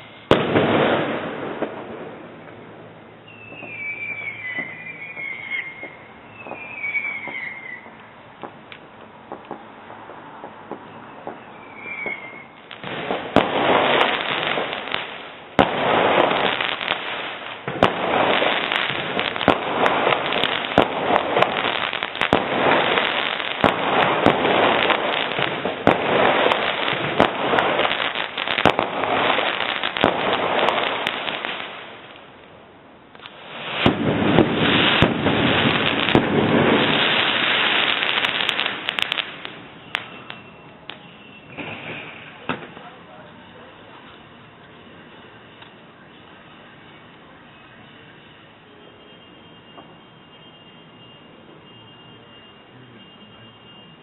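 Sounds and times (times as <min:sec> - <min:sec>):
fireworks cracking and banging: 0:00.0 - 0:45.8, 0:49.6 - 0:50.1.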